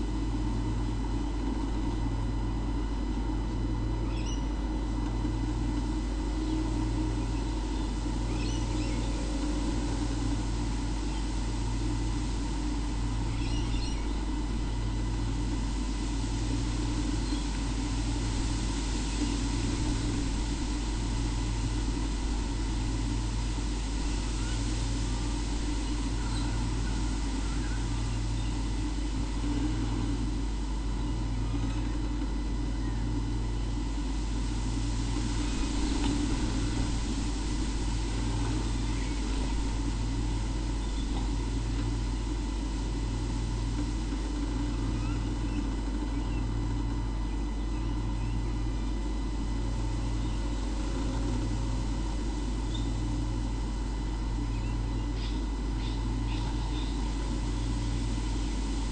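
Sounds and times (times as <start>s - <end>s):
low hum and hiss: 0.0s - 58.9s.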